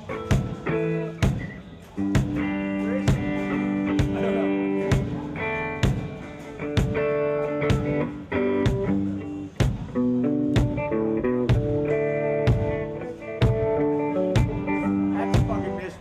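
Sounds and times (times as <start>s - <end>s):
electric guitar chords: 0.0s - 16.0s
drum strikes: 0.1s - 15.8s.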